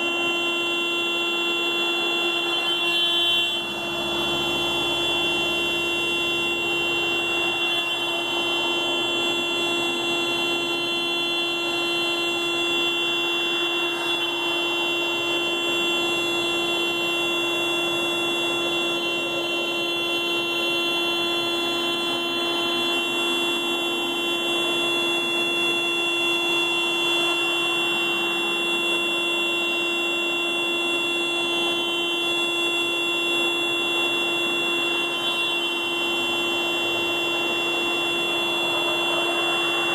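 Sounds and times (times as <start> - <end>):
car alarm steady horn tone: 0.0 - 39.9.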